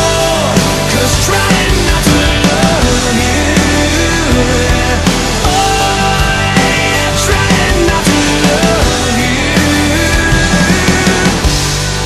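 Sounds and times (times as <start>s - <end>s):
drums beating: 0.0s - 12.0s
rock band playing: 0.0s - 12.0s.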